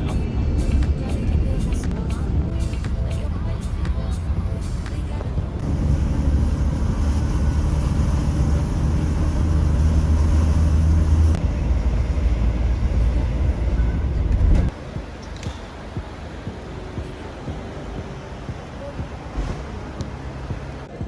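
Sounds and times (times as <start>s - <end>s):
vehicle engine running: 0.6s - 21.0s.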